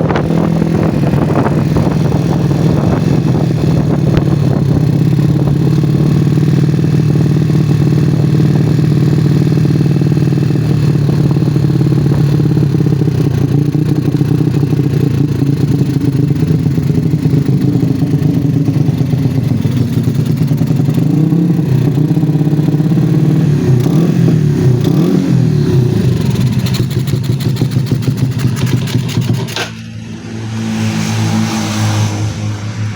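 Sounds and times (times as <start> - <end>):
motorcycle engine through loud exhaust: 0.0 - 32.9.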